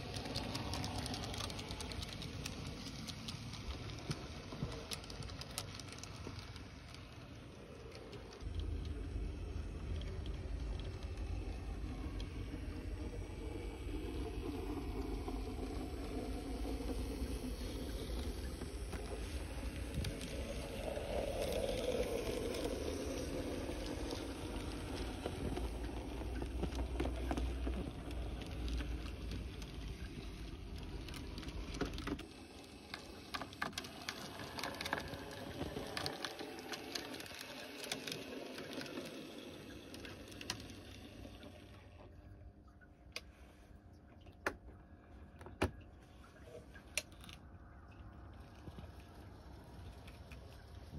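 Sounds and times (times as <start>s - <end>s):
model train motor rumbling: 0.0s - 41.5s
wheels clicking on track: 0.0s - 41.6s.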